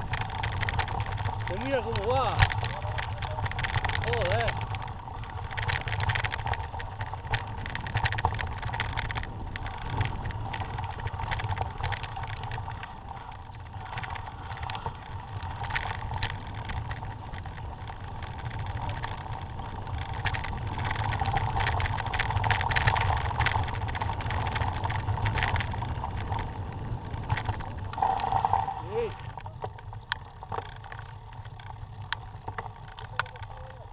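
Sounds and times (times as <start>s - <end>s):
bike rattling and clicking: 0.0s - 33.9s
tyres crunching on gravel: 0.0s - 33.9s.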